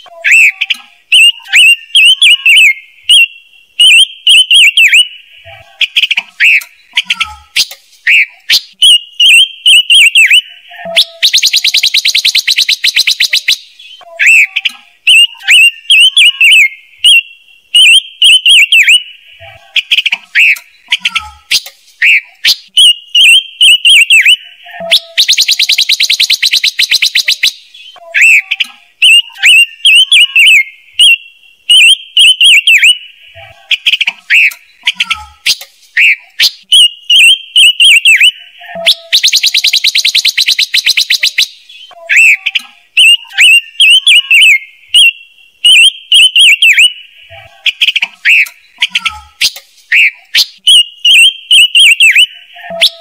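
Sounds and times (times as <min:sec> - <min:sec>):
bird chattering trill: 0:00.0 - 0:53.0
songbird chirping: 0:00.0 - 0:53.0.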